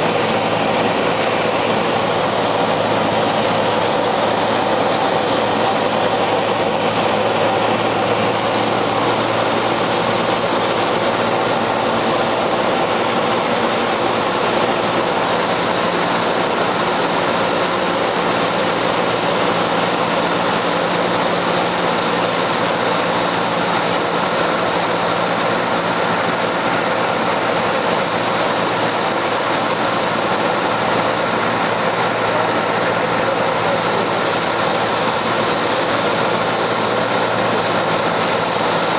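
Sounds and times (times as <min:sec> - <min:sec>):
propeller aircraft engine drone: 0:00.0 - 0:38.9.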